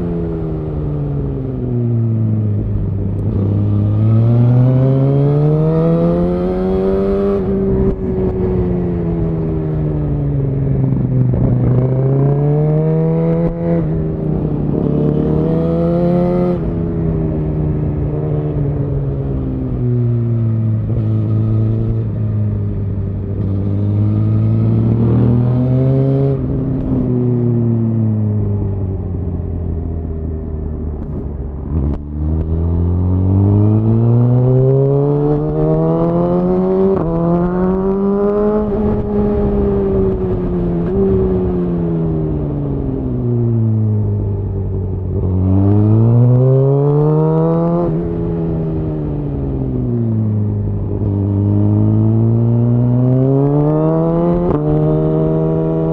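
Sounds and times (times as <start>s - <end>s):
motorcycle engine revving: 2.0s - 28.7s, 31.0s - 55.9s.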